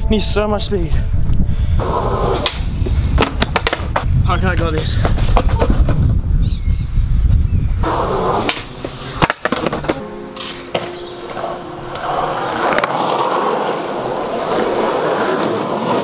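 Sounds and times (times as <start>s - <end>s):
skateboard wheels rolling on concrete: 1.8s - 6.3s, 7.2s - 16.0s.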